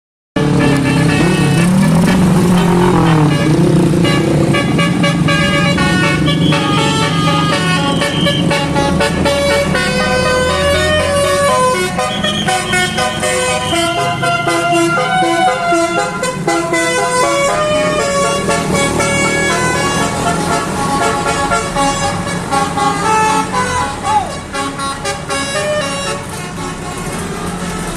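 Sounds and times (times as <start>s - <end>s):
engine running: 0.4s - 27.9s
low vehicle rumble: 0.4s - 27.9s
musical air horn playing a tune: 0.4s - 27.9s.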